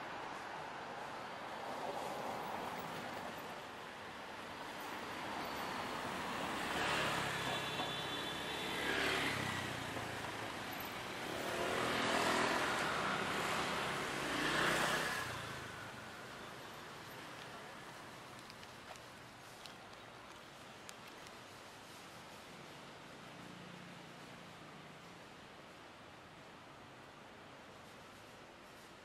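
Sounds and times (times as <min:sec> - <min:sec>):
vehicles passing: 0:00.0 - 0:25.6.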